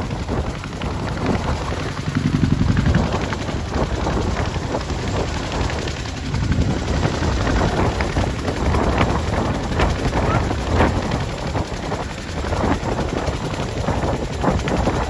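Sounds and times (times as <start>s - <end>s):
helicopter rotors chopping: 0.0s - 15.0s.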